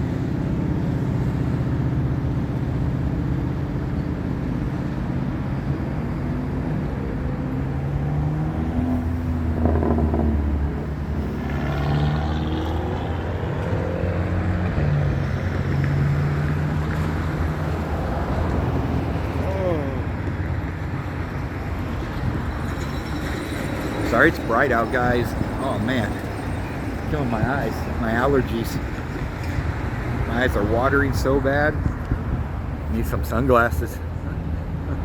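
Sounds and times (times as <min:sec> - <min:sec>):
passing vehicle engines: 0:00.0 - 0:35.0.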